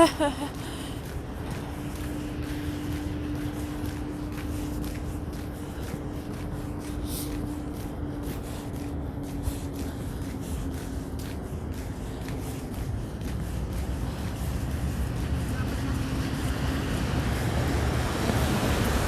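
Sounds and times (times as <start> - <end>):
footsteps crunching through snow: 0.0 - 19.0
street traffic hum: 0.0 - 19.0.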